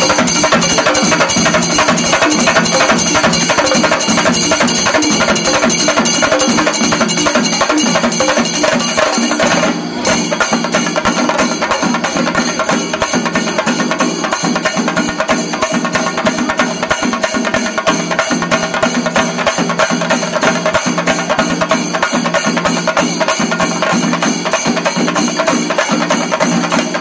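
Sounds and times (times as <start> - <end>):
drums beaten fast with sticks: 0.0 - 27.0
hand cymbals ringing: 0.0 - 27.0.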